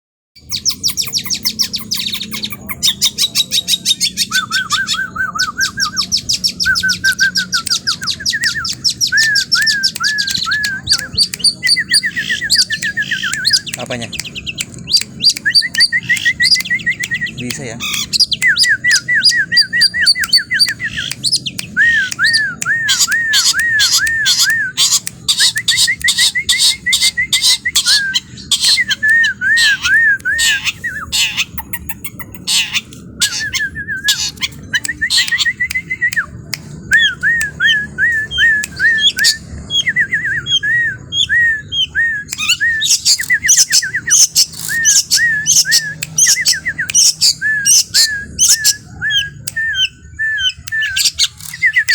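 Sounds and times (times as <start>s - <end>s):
sharp bird chip notes: 0.4s - 51.9s
songbird chirping: 0.4s - 51.9s.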